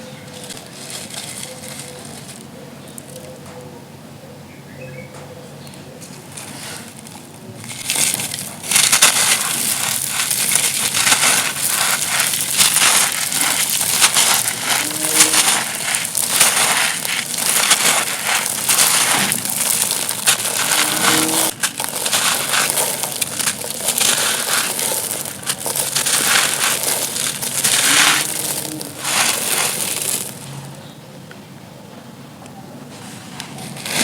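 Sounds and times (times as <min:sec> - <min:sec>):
stony material crunching: 0:00.0 - 0:03.2, 0:06.0 - 0:31.0, 0:33.2 - 0:34.0.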